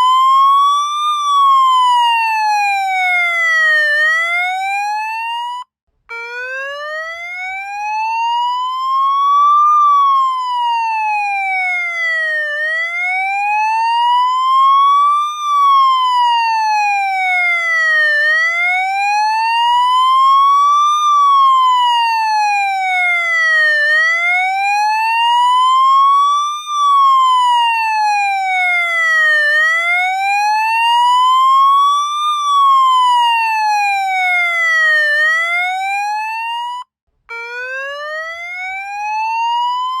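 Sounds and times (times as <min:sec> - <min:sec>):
police siren wailing: 0:00.0 - 0:40.0.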